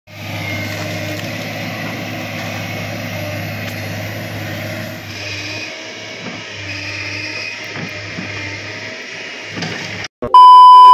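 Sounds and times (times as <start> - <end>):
excavator diesel engine running: 0.1 - 10.1.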